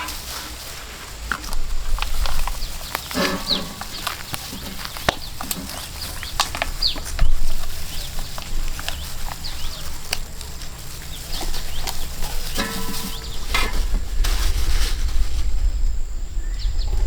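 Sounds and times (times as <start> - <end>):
small birds chirping: 0.0 - 14.3, 15.7 - 17.0.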